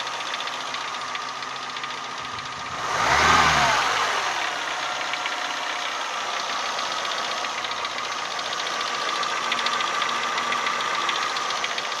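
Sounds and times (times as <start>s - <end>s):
car engine idling: 0.0s - 12.0s
rapid knocking tick: 0.2s - 2.7s, 4.6s - 12.0s.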